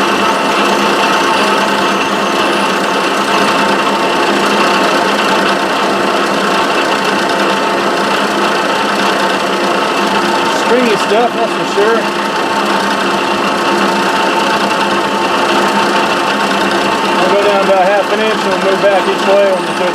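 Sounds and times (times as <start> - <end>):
milling machine cutting plastic: 0.0 - 19.9.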